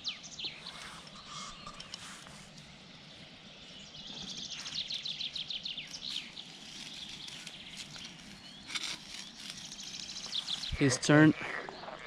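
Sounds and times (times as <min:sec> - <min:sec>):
faint bird chirping: 0:00.0 - 0:12.0
songbird singing: 0:00.0 - 0:12.0.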